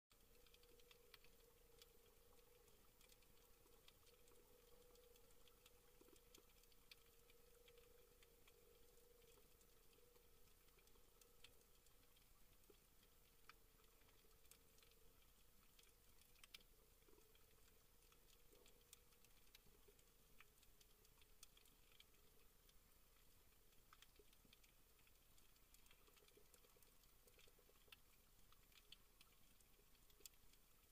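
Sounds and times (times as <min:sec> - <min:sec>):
faint steady hum: 0:00.1 - 0:30.9
underwater crackle of clicks: 0:00.1 - 0:30.9.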